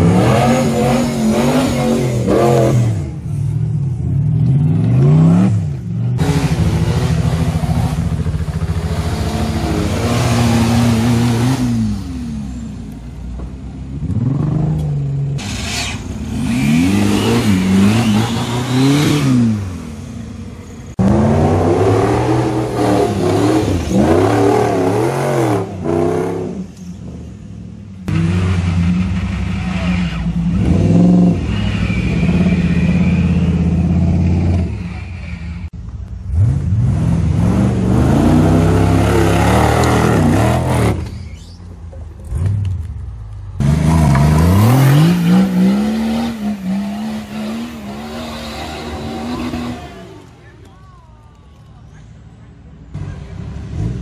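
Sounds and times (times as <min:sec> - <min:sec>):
off-road engines revving: 0:00.0 - 0:50.8, 0:51.6 - 0:54.0.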